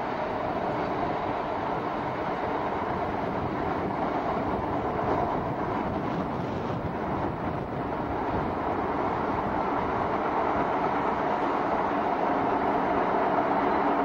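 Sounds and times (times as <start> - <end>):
freight train engine and wheels: 0.0 - 14.0.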